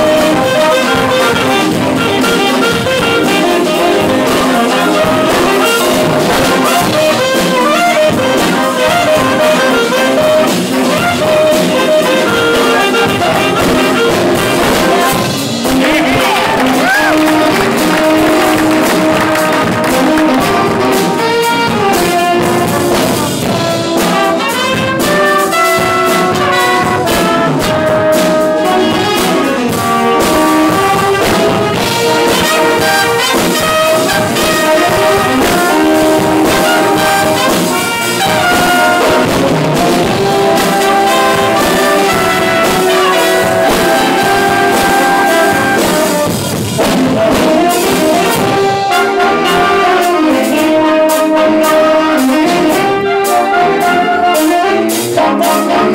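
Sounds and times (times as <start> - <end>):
jazz band playing funk: 0.0 - 55.9.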